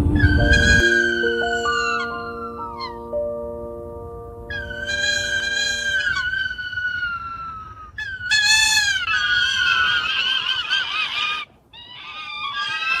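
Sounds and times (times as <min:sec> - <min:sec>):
bird wavering cries: 0:00.2 - 0:03.1, 0:04.5 - 0:13.0.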